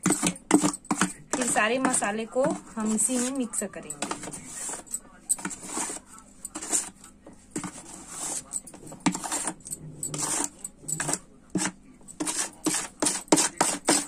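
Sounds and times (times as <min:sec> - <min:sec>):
spoon scraping a dish: 0:00.0 - 0:14.0.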